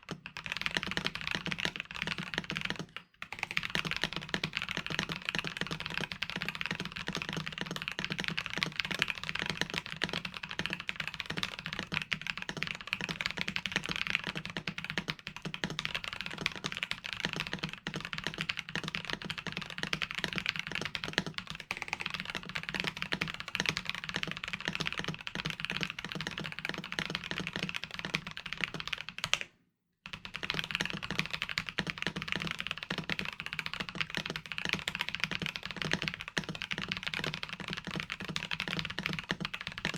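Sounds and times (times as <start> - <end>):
fast typing on mechanical keyboard: 0.0 - 29.5, 30.1 - 39.9.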